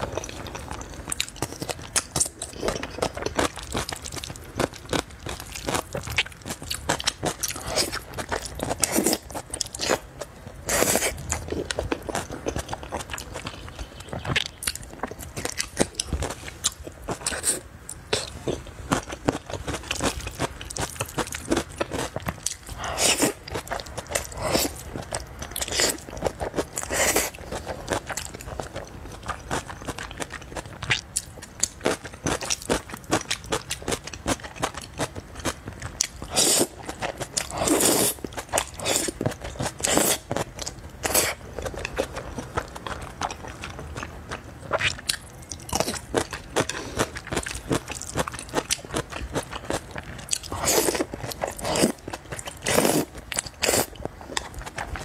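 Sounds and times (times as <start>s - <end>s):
crisp crunching and chewing: 0.0s - 55.0s.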